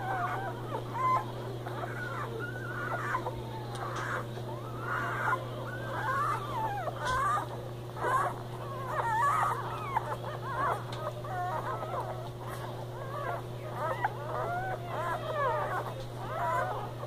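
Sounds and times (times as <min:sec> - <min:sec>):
puppies squeaking and whining: 0:00.0 - 0:17.0.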